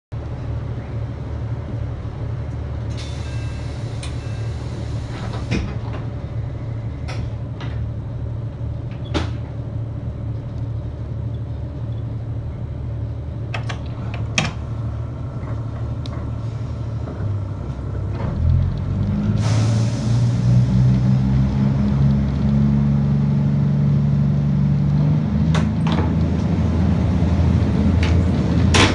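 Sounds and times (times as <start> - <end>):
diesel railcar engine idling: 0.2 - 22.2, 22.8 - 28.9.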